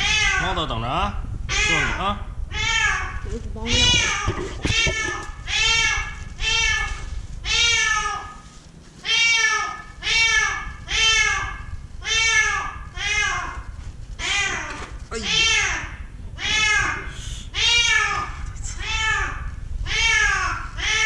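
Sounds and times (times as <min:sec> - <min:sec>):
cat meowing loudly: 0:00.0 - 0:00.6, 0:01.5 - 0:21.0.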